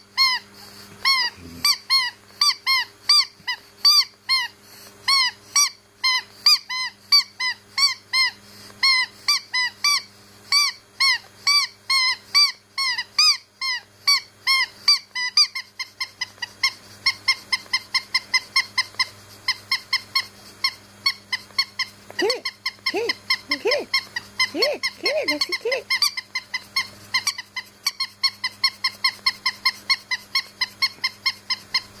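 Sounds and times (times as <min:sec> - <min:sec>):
squeaky dog toy squeaking: 0:01.0 - 0:04.5, 0:05.1 - 0:32.0.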